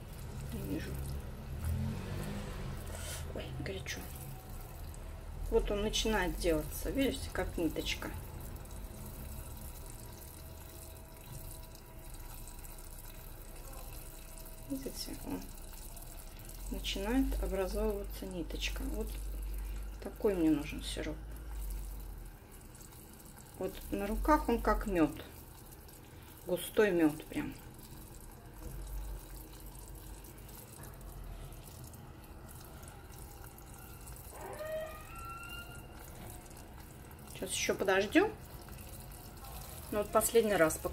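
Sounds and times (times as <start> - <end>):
syrup boiling with watery hiss: 0.0 - 40.9.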